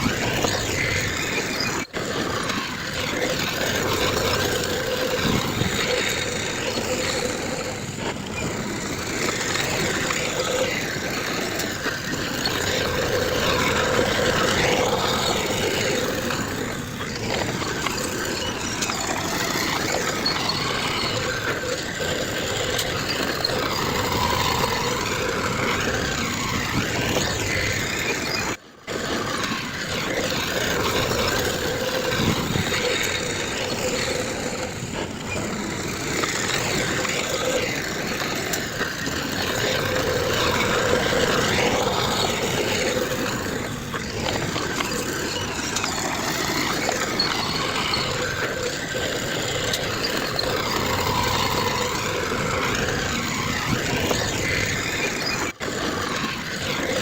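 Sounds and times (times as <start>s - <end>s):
heavy machinery engines running: 0.0s - 57.0s.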